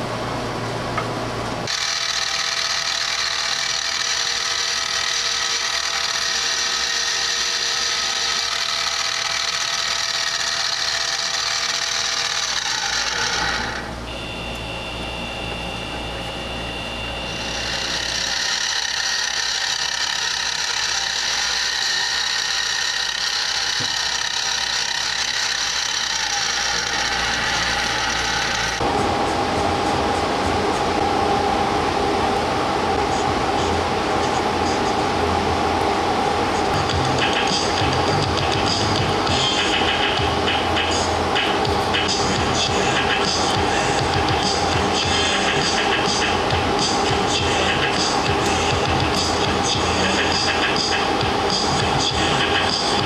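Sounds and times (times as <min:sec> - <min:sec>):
drill press whining: 0:00.9 - 0:53.0.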